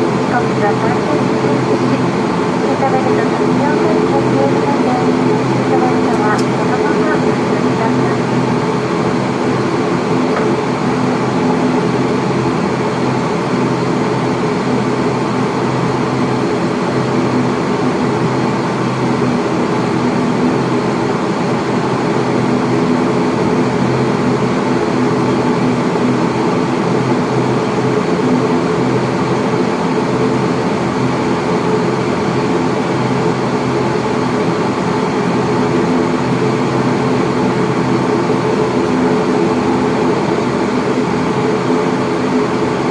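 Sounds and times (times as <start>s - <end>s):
turboprop engines droning: 0.0s - 42.9s.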